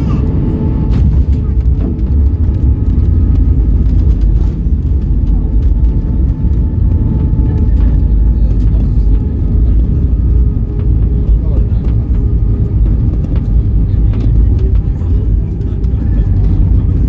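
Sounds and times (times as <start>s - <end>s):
engine and wheel rumble: 0.0s - 17.0s.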